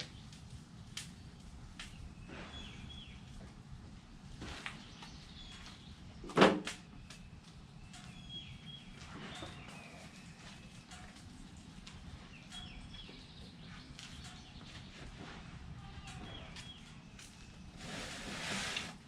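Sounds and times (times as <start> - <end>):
birds chirping: 0.0 - 18.4
outdoor background noise: 0.0 - 19.0.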